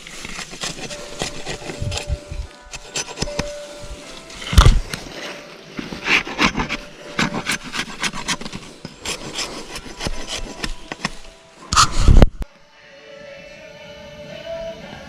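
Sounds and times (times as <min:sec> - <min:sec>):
rubbing and scraping: 0:00.0 - 0:12.5.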